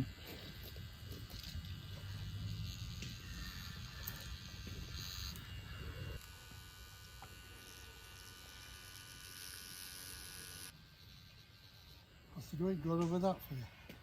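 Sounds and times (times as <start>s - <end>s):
tattoo machine buzzing: 0.0s - 14.0s.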